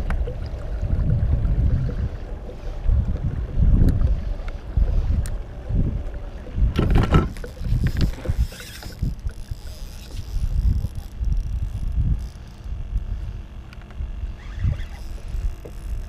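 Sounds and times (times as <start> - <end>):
wind buffeting microphone: 0.0 - 13.4, 14.0 - 16.0.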